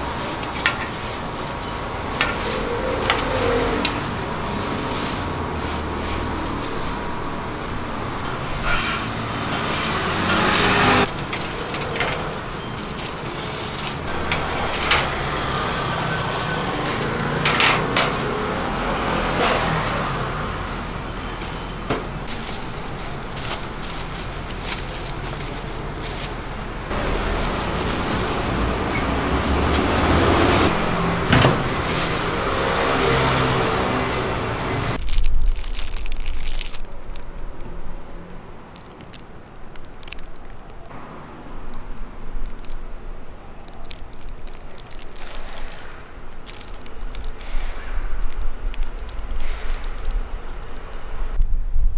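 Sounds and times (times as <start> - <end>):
plastic bags crinkling: 0.0 - 7.4, 11.0 - 18.6, 22.0 - 40.9, 41.6 - 51.1
street traffic hum: 0.0 - 51.9.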